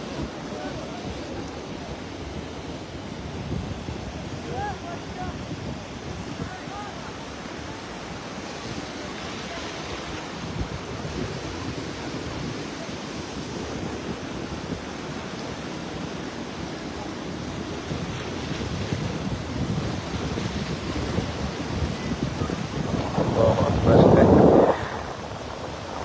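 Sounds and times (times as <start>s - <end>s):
sea surf washing over rocks: 0.0s - 26.0s
wind rumbling on microphone: 0.0s - 26.0s.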